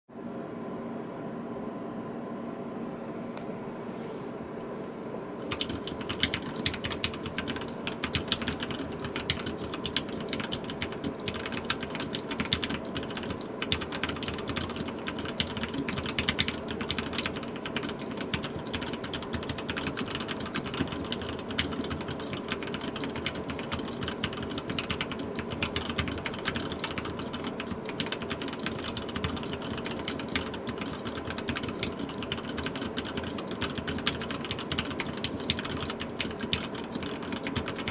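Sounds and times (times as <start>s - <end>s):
fast mechanical keyboard typing: 5.5s - 37.9s.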